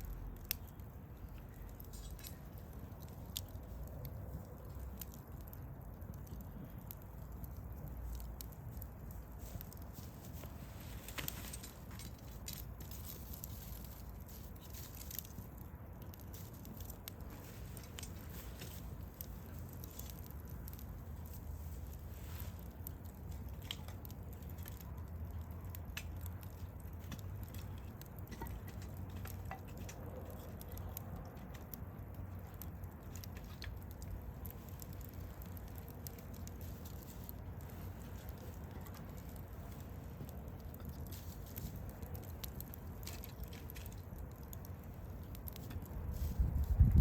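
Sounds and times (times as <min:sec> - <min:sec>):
campfire crackling and snapping: 0:00.0 - 0:47.0
low steady fire rumble: 0:00.0 - 0:47.0.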